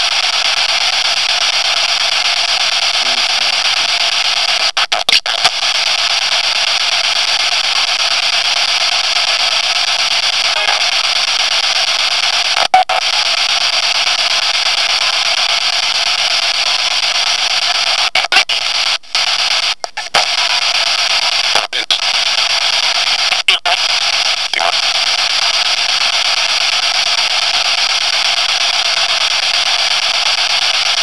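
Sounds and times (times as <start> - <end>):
static hiss: 0.0 - 31.0.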